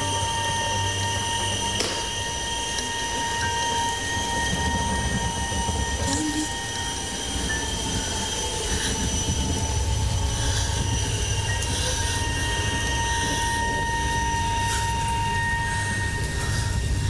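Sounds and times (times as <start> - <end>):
high-pitched squealing tones: 0.0 - 17.0
low rumble: 0.0 - 17.0.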